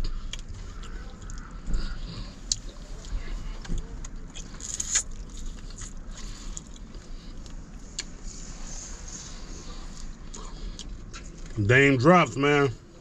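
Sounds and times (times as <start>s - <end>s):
chewing and lip-smacking: 0.0s - 8.2s, 9.1s - 11.6s
steady low rumble: 0.0s - 13.0s.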